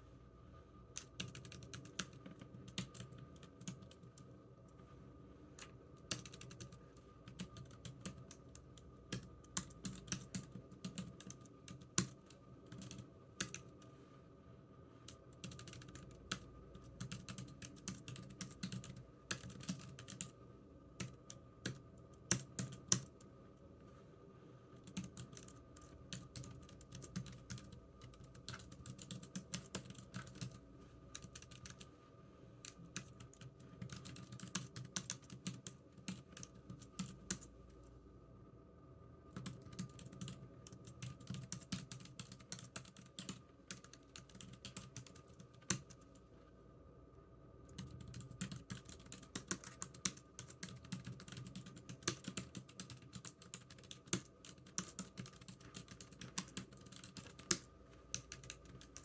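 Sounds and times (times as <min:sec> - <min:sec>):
typing on computer keyboard: 0:01.0 - 0:04.3, 0:05.6 - 0:13.8, 0:15.1 - 0:20.4, 0:21.0 - 0:23.2, 0:24.8 - 0:31.9, 0:32.6 - 0:37.5, 0:39.3 - 0:46.1, 0:47.7 - 0:59.0.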